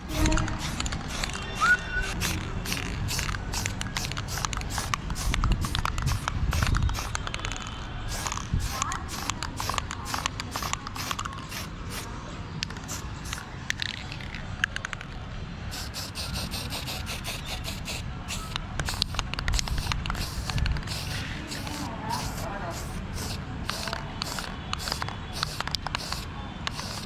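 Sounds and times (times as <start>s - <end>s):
spray-paint can hissing: 0.0s - 14.4s, 15.7s - 27.0s.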